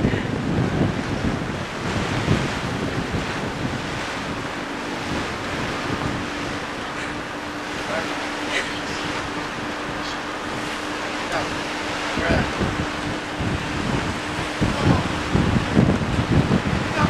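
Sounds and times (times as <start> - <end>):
waves: 0.0 - 17.0
wind buffeting microphone: 0.0 - 17.0.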